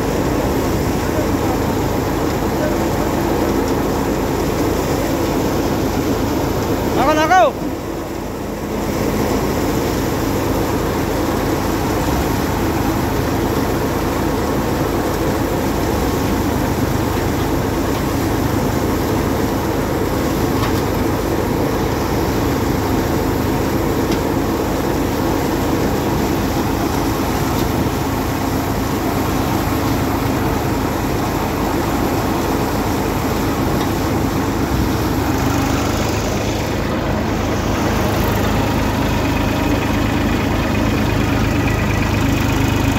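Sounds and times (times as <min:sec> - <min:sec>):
tractor engine drone: 0:00.0 - 0:42.9.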